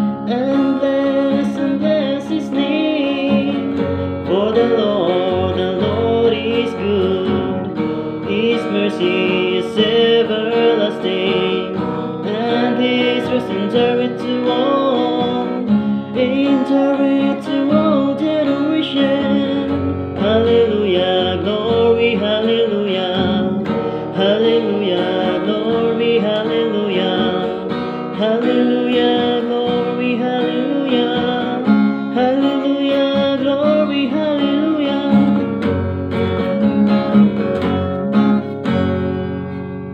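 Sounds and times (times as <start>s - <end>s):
man singing: 0.0s - 36.2s
acoustic guitar strumming: 0.0s - 39.9s.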